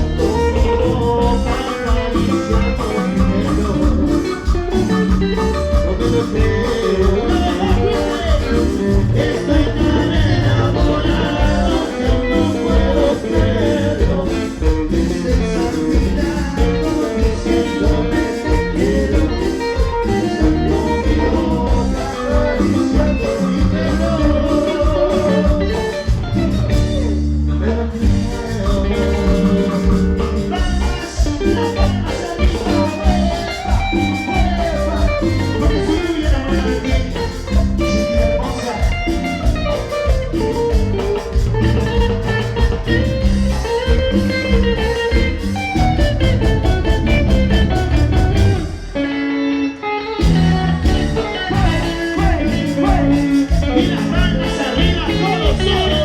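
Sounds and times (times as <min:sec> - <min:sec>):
latin band music: 0:00.0 - 0:56.0.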